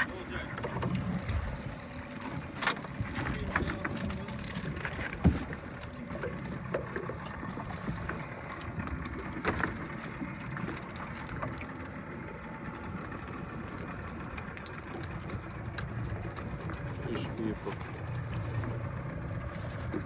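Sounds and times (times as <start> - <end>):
boat engine low rumble: 0.0 - 20.0.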